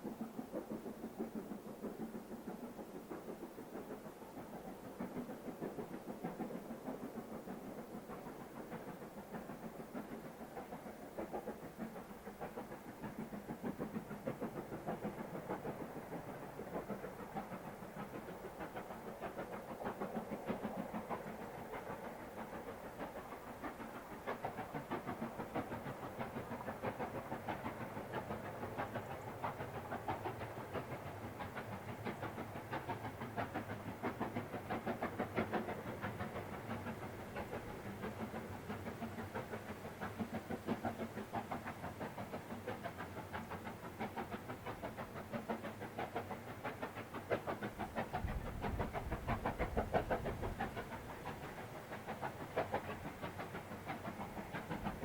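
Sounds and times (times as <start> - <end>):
steam locomotive chugging: 0.0 - 55.0.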